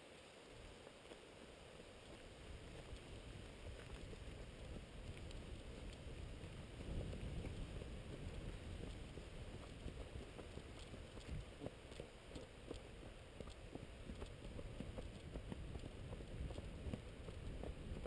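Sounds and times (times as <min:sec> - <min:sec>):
faint ticks: 0:00.1 - 0:18.0
wind on microphone: 0:02.1 - 0:18.0.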